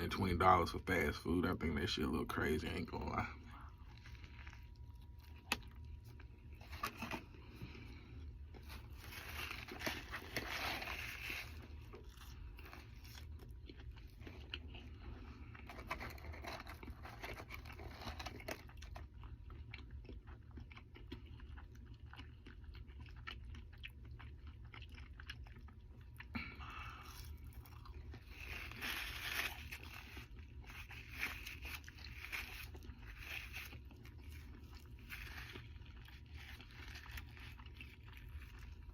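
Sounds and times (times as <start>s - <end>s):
chewing and crunching: 0.0s - 38.9s.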